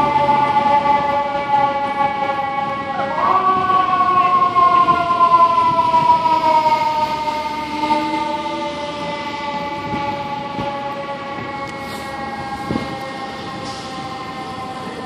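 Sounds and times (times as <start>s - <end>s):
fire engine siren: 0.0s - 15.0s.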